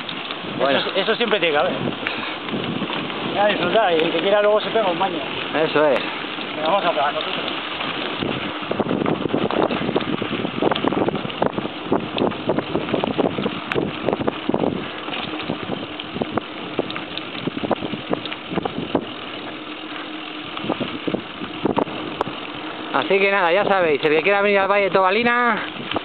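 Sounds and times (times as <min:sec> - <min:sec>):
wind on microphone: 0:00.0 - 0:06.6, 0:07.2 - 0:24.4, 0:25.1 - 0:26.0
bike rattling and knocking: 0:00.0 - 0:26.0
bike tyres on dirt trail: 0:00.0 - 0:26.0.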